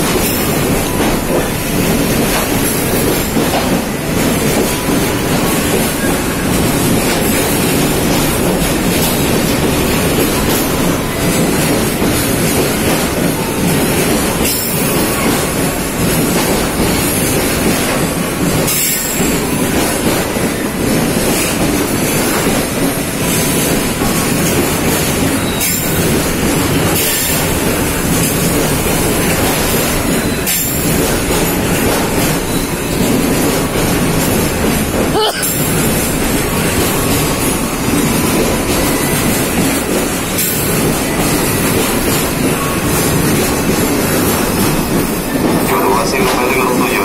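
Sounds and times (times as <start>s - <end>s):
train wheels rolling on rails: 0.0s - 47.0s.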